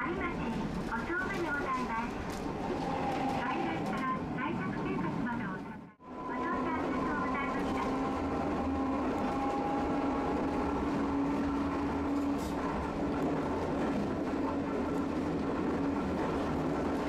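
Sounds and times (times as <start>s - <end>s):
streetcar rumbling: 0.0s - 17.0s.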